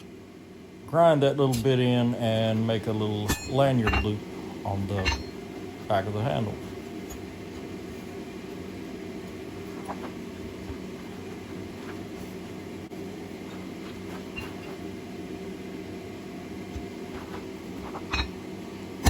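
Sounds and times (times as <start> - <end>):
shop equipment humming: 0.0 - 19.0.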